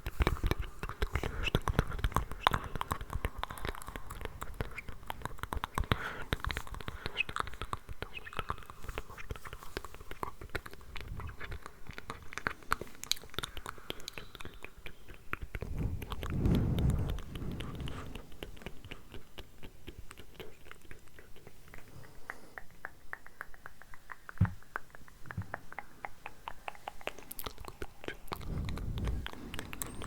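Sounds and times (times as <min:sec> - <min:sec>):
mouth clicks: 0:00.0 - 0:30.0.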